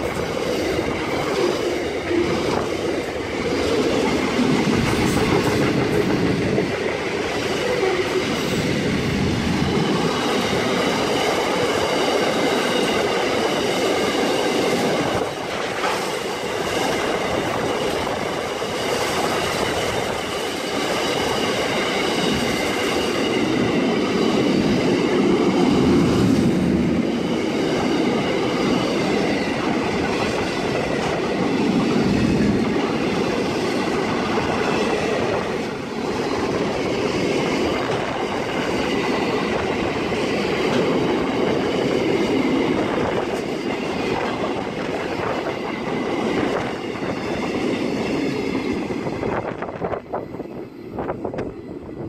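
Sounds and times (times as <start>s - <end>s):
steel wheels rumbling on rail: 0.0s - 52.0s.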